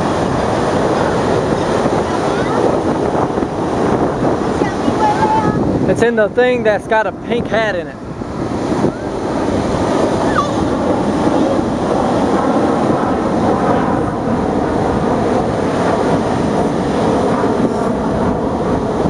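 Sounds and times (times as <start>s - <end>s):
ocean surf washing: 0.0s - 19.0s
wind buffeting the microphone: 0.0s - 19.0s.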